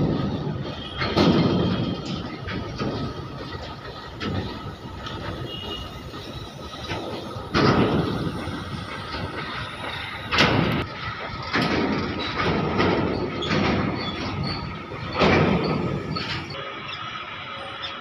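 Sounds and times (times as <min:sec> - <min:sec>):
train rumble: 0:00.0 - 0:18.0
wheels clanking over rail joints: 0:00.0 - 0:18.0.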